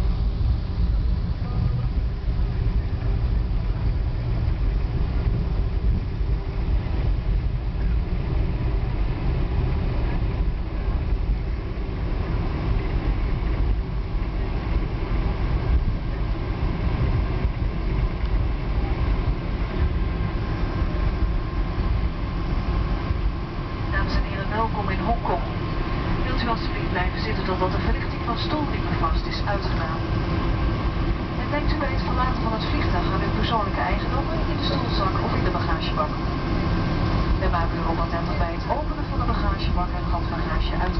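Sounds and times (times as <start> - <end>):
airplane cabin rumble: 0.0 - 40.9
faint steady tones: 0.0 - 40.9.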